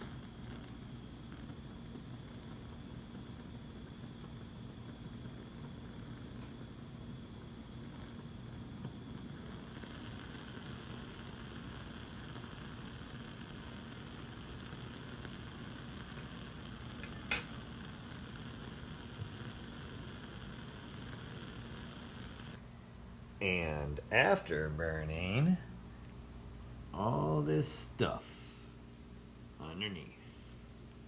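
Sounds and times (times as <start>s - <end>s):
gas flame rumbling and hissing: 0.0s - 31.0s.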